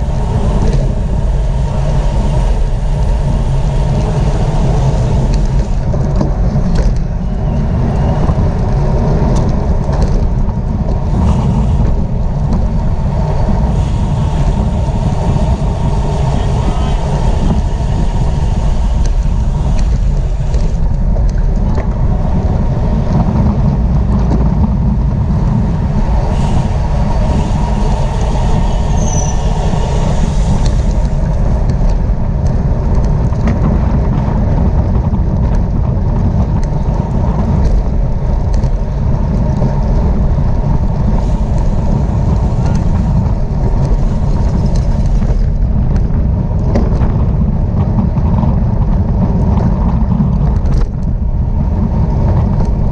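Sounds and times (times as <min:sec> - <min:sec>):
bicycle rumble: 0:00.0 - 0:52.9
wind rush over microphone: 0:00.0 - 0:52.9.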